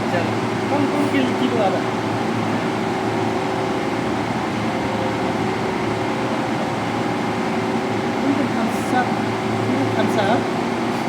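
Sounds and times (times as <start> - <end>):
motor humming steadily: 0.0 - 11.0.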